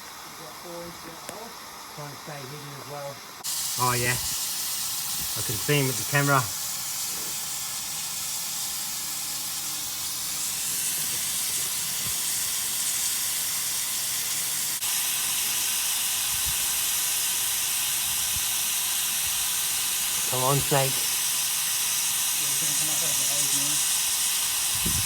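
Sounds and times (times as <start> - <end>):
water spraying hiss: 0.0 - 25.0.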